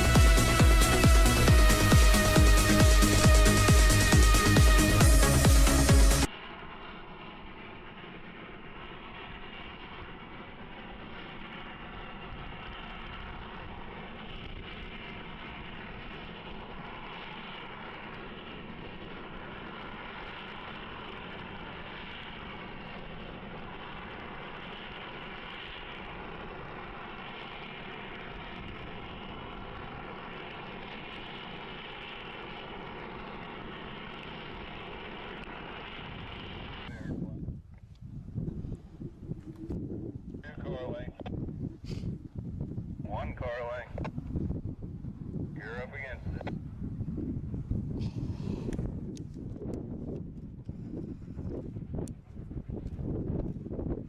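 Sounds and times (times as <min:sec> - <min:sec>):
constant rushing noise: 0:00.0 - 0:54.0
large engine running: 0:00.0 - 0:54.0.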